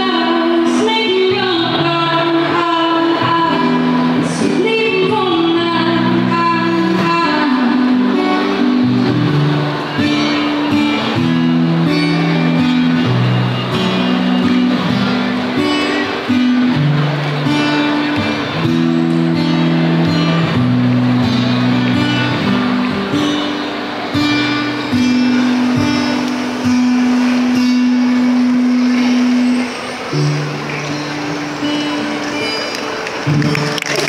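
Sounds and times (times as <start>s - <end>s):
acoustic guitar strumming chords: 0.0s - 34.0s.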